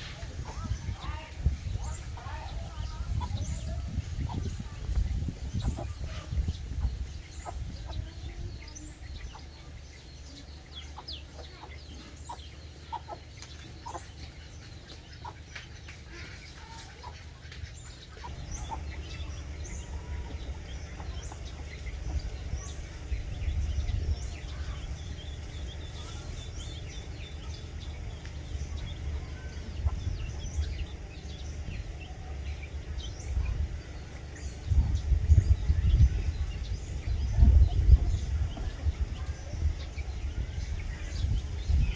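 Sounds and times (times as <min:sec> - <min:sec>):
chicks peeping: 0:00.0 - 0:41.9
hen clucking: 0:00.0 - 0:41.9
low rumble: 0:00.0 - 0:41.9.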